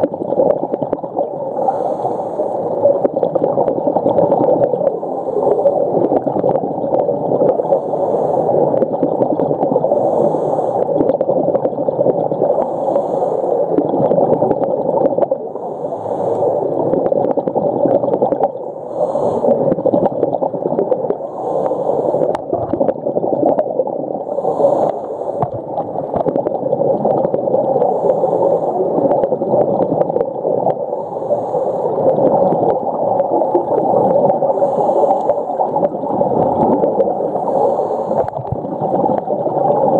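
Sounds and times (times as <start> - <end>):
muffled underwater rushing and gurgling: 0.0 - 39.9.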